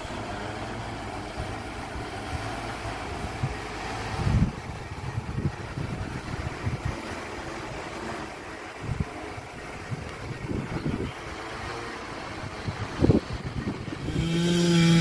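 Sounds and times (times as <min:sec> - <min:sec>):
helicopter hovering: 0:00.0 - 0:15.0
wind buffeting microphone: 0:01.1 - 0:15.0.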